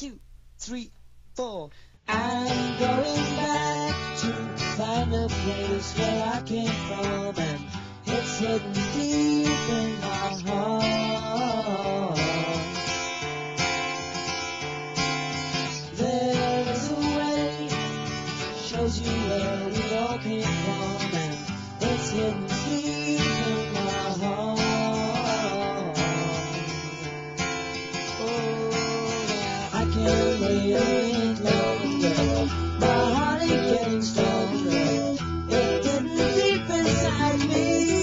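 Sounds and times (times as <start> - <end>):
strummed guitar music: 2.1 - 38.0.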